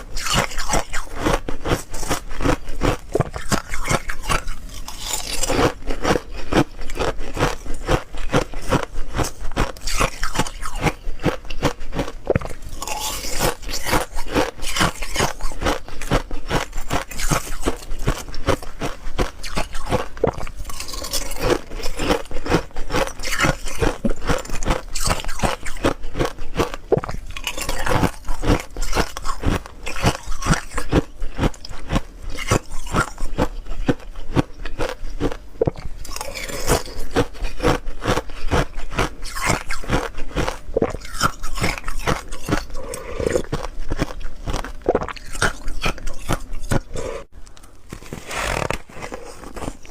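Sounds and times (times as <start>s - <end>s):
ice crunching while chewed: 0.0s - 49.9s.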